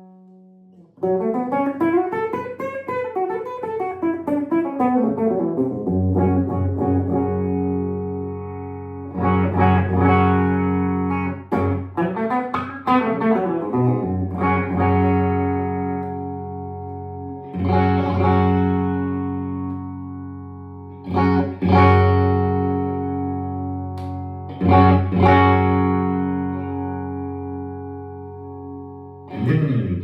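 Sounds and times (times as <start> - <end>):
electric guitar chords and picked notes: 0.0 - 30.0.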